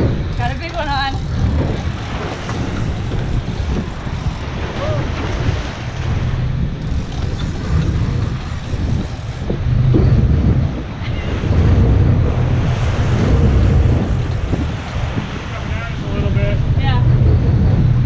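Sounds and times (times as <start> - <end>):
boat engines droning: 0.0 - 18.0
seawater rushing and splashing: 0.0 - 18.0
wind buffeting microphone: 0.0 - 18.0.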